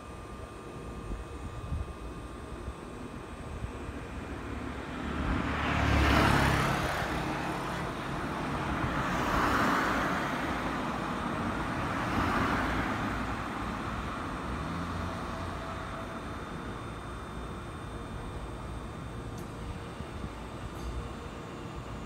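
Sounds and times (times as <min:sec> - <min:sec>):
low steady traffic rumble: 0:00.0 - 0:22.0
traffic passing close by: 0:00.8 - 0:22.0.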